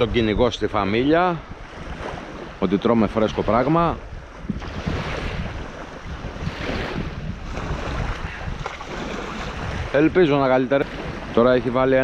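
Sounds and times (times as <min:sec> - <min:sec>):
waves washing on shore: 0:00.0 - 0:12.0
wind buffeting microphone: 0:00.0 - 0:12.0.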